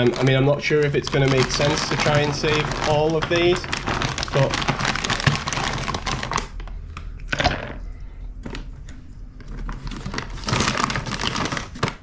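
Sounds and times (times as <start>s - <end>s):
plastic bag crinkling: 0.0s - 7.7s, 9.4s - 12.0s.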